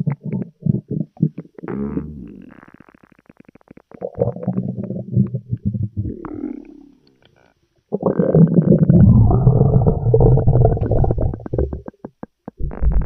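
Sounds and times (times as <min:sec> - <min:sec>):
cartoon stomach gurgle: 0:00.0 - 0:06.9, 0:07.9 - 0:13.0.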